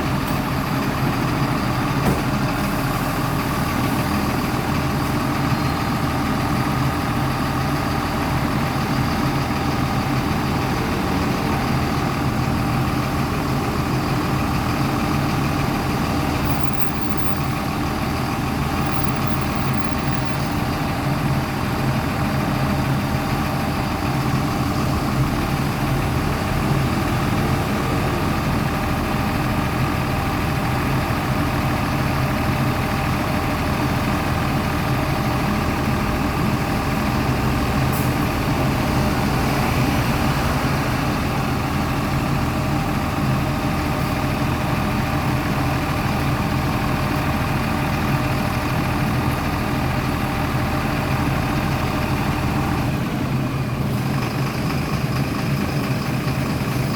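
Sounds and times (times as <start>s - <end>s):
bus diesel engine idling: 0.0s - 56.9s.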